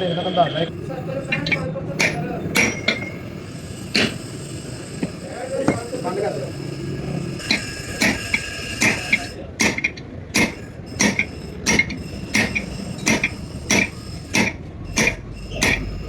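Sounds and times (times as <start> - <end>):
hammer blows on metal: 0.8 - 16.0.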